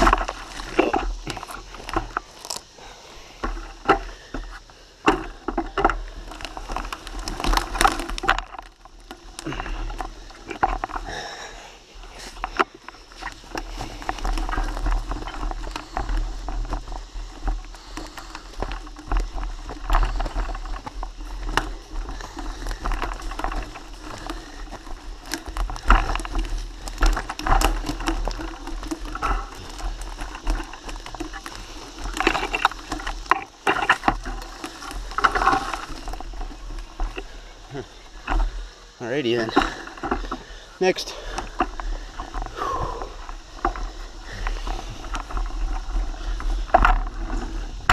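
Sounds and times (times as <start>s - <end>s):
bike clicks and rattles: 0.0s - 47.9s
tyres crunching over leaves: 0.0s - 47.9s.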